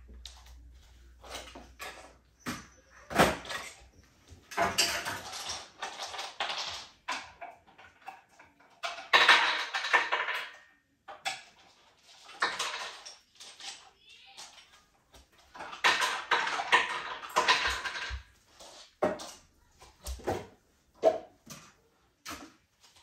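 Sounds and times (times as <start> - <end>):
toys clattering and rattling: 0.0 - 23.0.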